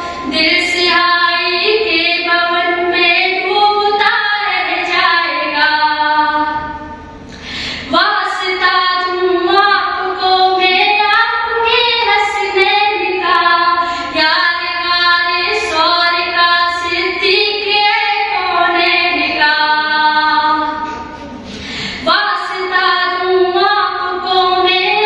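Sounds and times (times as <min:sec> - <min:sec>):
woman singing devotional song: 0:00.0 - 0:06.8, 0:07.8 - 0:20.9, 0:21.9 - 0:25.0.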